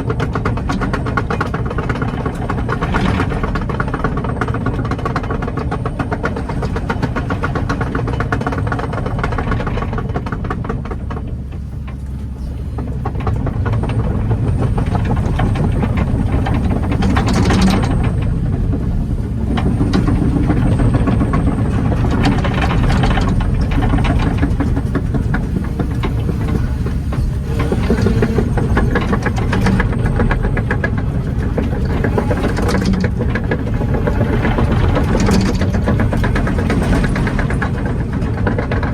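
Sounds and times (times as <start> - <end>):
excavator diesel engine running: 0.0 - 38.9
steel tracks rattling and clanking: 0.0 - 38.9.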